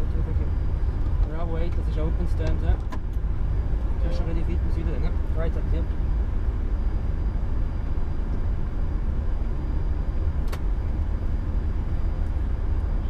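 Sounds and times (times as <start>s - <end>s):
aircraft taxiing rumble: 0.0s - 13.0s.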